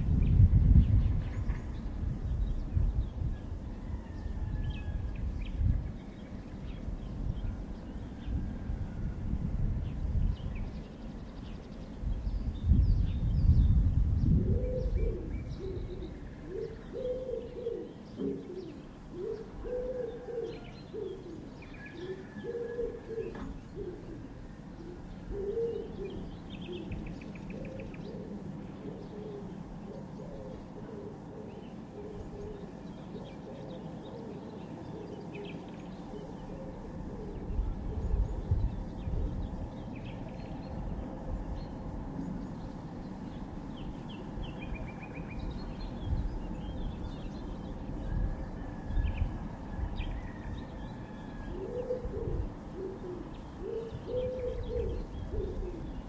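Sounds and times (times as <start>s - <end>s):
low cooing bird calls: 0.0s - 56.0s
small birds chirping: 9.8s - 56.0s.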